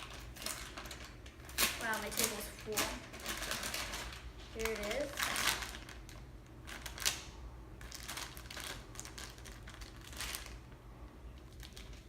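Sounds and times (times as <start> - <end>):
toy handling rustles and clicks: 0.0 - 10.6.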